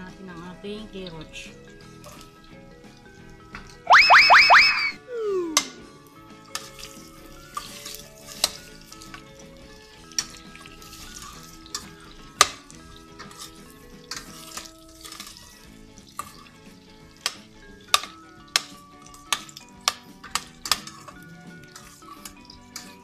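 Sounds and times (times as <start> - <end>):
low sizzle of frying: 0.0 - 3.9, 5.8 - 23.0.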